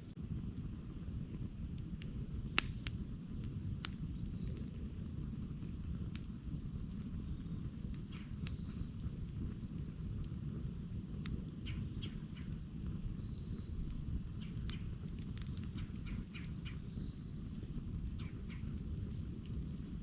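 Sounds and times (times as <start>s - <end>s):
campfire crackling and popping: 0.0s - 20.0s
steady low rumble: 0.0s - 20.0s.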